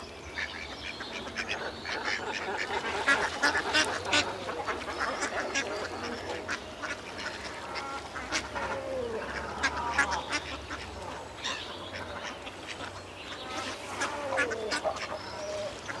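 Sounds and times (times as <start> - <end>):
ducks quacking: 0.4 - 16.0.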